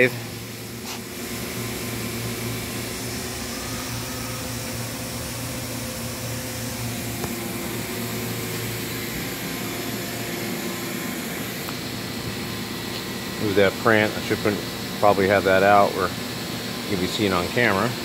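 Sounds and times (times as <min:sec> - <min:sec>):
machine tools humming and hissing: 0:00.0 - 0:18.0.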